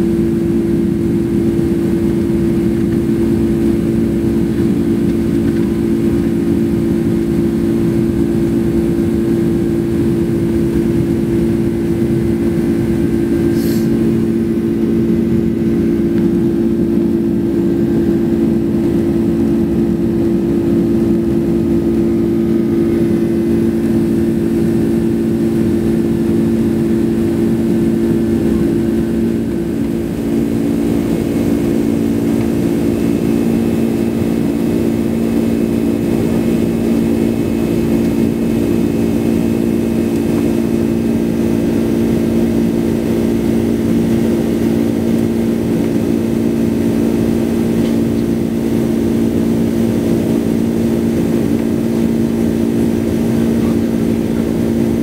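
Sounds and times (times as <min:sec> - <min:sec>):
jet engines droning in cabin: 0:00.0 - 0:55.0.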